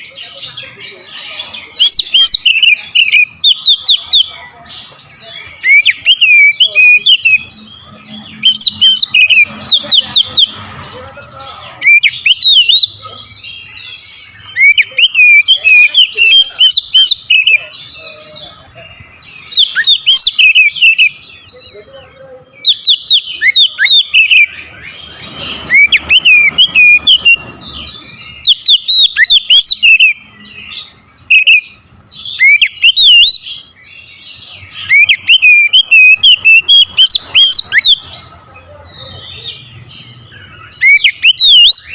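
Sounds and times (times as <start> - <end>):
bird singing whistled phrases: 1.5 - 4.4, 5.2 - 10.6, 11.8 - 18.5, 19.4 - 21.7, 22.6 - 38.0, 40.2 - 41.9.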